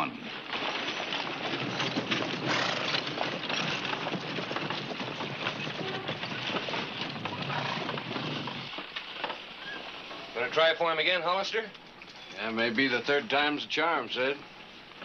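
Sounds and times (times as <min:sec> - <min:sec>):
hooves clopping: 0:00.0 - 0:15.0
coach rattling: 0:00.4 - 0:13.5.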